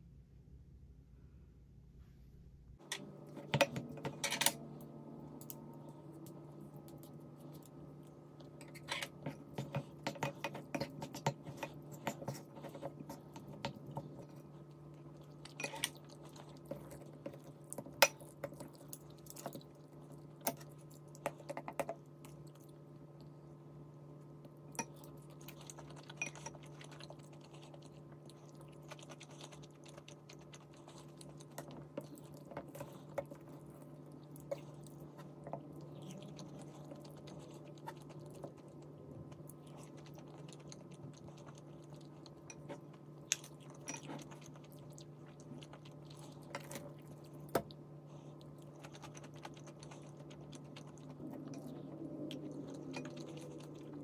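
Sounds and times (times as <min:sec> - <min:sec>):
steady low hum: 0:00.0 - 0:54.0
chewing: 0:05.4 - 0:23.5, 0:24.3 - 0:54.0.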